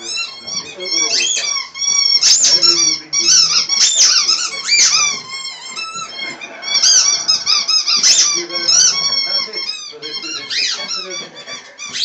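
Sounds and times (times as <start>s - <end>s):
squeaky dog toy squeaking: 0.0s - 12.0s.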